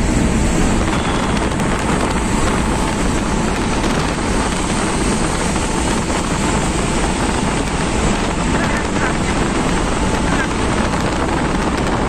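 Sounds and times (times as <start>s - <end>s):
road and wind noise inside car: 0.0s - 12.0s.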